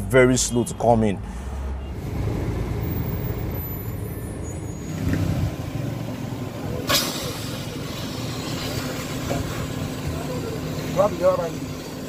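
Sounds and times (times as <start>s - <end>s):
car road and traffic rumble: 0.0s - 12.0s.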